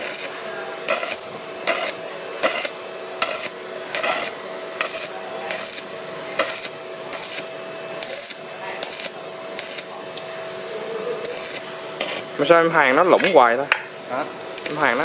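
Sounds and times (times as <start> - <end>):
welding arc crackling: 0.0 - 10.0, 11.2 - 13.4, 14.6 - 15.0
steady high hum: 0.0 - 15.0.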